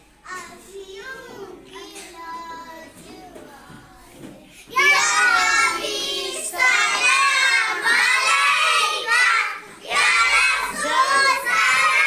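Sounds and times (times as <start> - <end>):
children singing together: 0.4 - 12.0.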